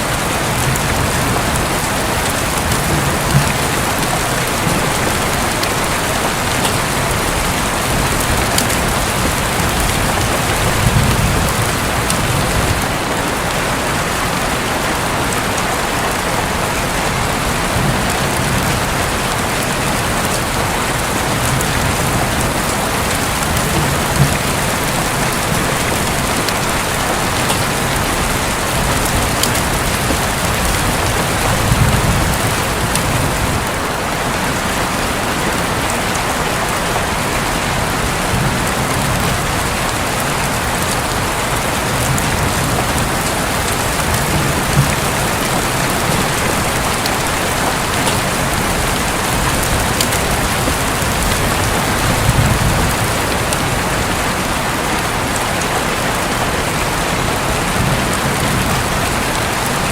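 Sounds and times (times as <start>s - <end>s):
thunder rumbles: 0.0s - 55.4s
heavy rain drumming on a roof: 0.0s - 59.9s.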